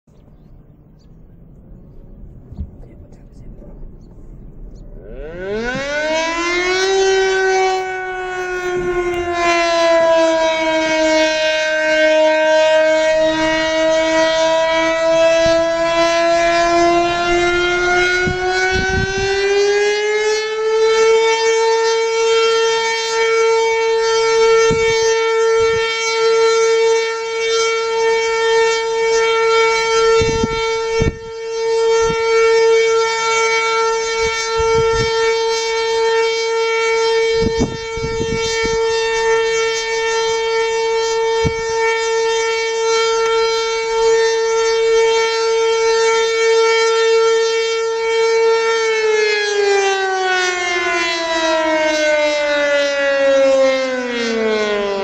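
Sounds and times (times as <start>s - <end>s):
warning siren steady tone: 0.1s - 55.0s.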